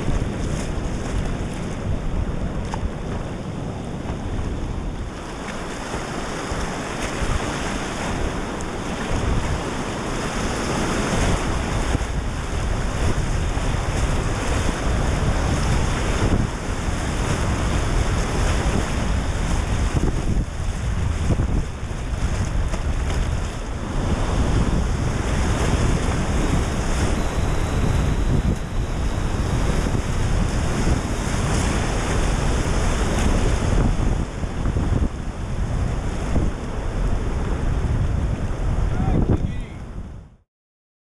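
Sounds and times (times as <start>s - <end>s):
whitewater rushing and splashing: 0.0s - 39.6s
wind rumbling on microphone: 0.0s - 40.4s.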